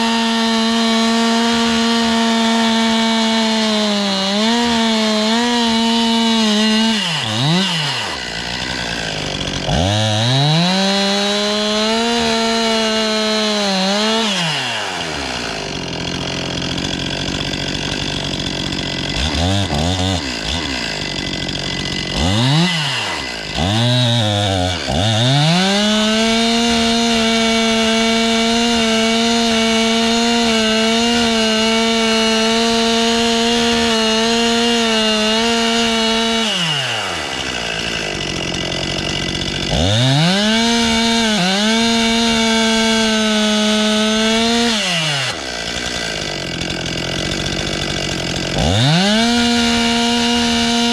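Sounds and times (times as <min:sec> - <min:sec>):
chainsaw milling wood: 0:00.0 - 0:50.9.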